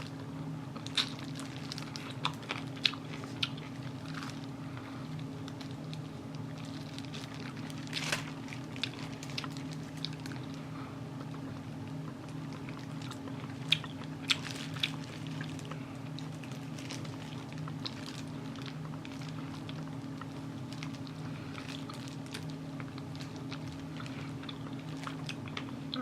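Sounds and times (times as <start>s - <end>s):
person chewing crunchy food: 0.0s - 26.0s
steady low hum: 0.0s - 26.0s.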